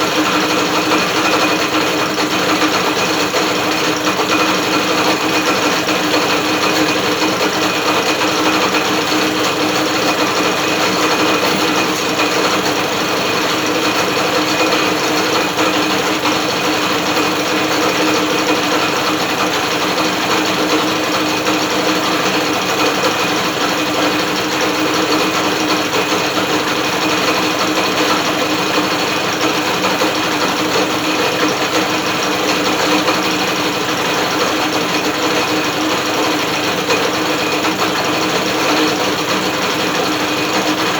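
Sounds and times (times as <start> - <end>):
outboard motor spun by drill: 0.0 - 40.9.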